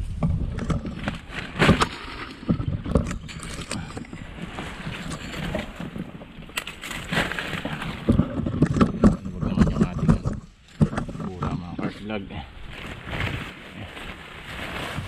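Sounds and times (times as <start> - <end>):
rustling of leaves and clothing: 0.0 - 15.0.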